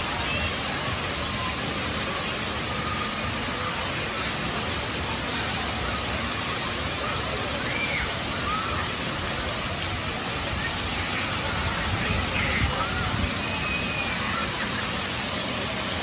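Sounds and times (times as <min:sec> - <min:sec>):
faint voices calling out: 0:00.0 - 0:16.0
water spray jets rushing: 0:00.0 - 0:16.0.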